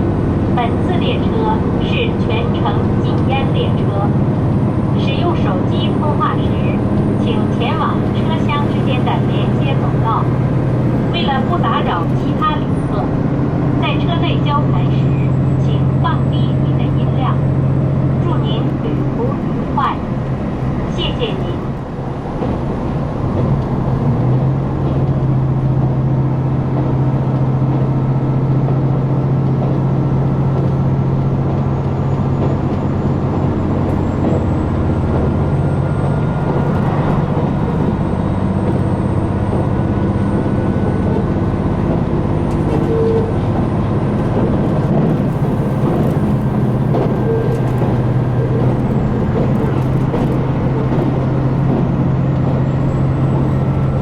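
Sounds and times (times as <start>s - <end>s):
railcar diesel engine under power: 0.0s - 54.0s.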